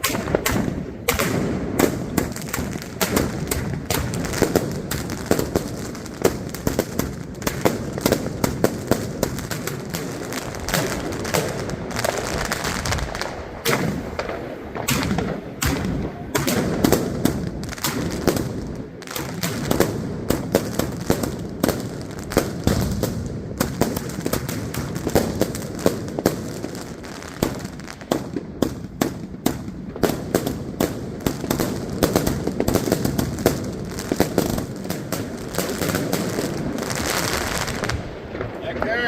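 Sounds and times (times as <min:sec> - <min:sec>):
firework cracks and bangs: 0:00.0 - 0:39.0.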